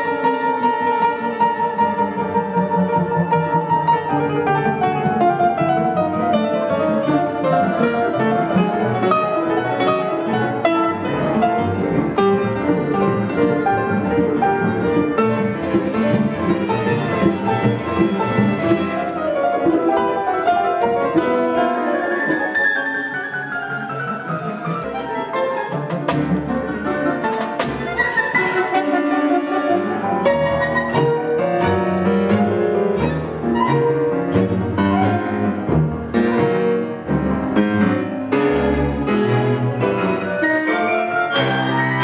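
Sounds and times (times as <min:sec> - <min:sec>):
grand piano: 0:00.0 - 0:42.0
orchestra strings playing: 0:00.0 - 0:42.0.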